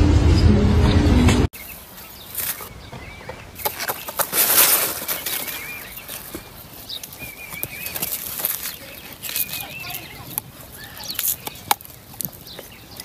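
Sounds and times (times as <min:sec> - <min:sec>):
leaves and stems rustling and snapping: 0:01.6 - 0:02.8, 0:03.6 - 0:13.0.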